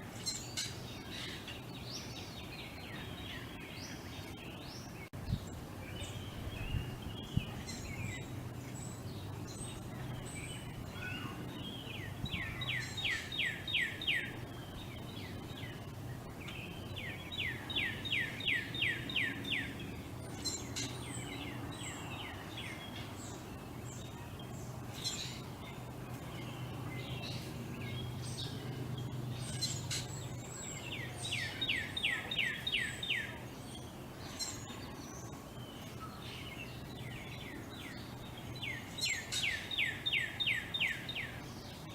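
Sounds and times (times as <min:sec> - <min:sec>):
low background hum: 0:00.0 - 0:41.9.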